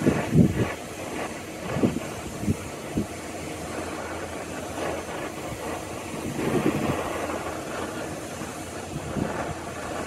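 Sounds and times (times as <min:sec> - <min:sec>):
torch flame rushing: 0:00.0 - 0:10.0.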